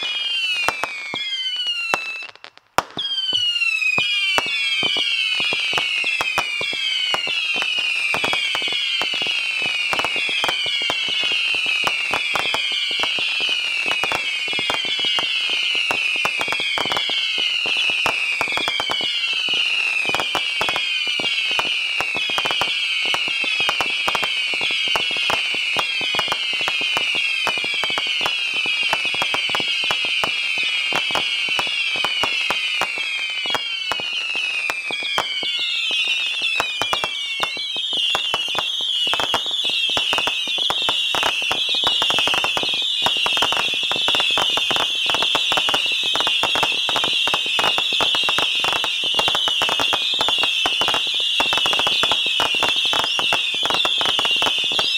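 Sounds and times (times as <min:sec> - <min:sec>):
firework pops and cracks: 0:00.0 - 0:54.9
shrill falling firework whistles: 0:00.0 - 0:54.9.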